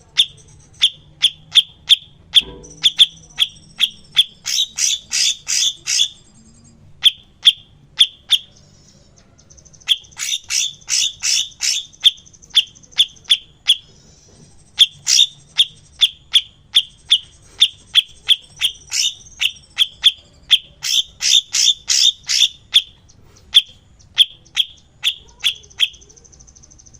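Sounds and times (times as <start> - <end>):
songbird sharp high calls: 0.1 - 26.9.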